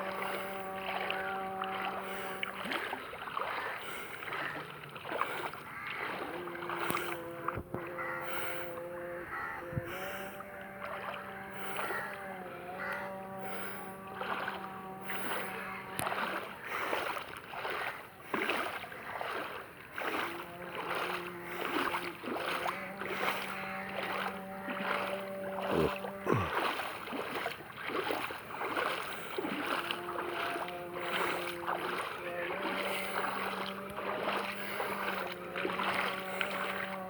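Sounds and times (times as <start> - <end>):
legs splashing through water: 0.0 - 37.0
steady motor hum: 0.0 - 37.0.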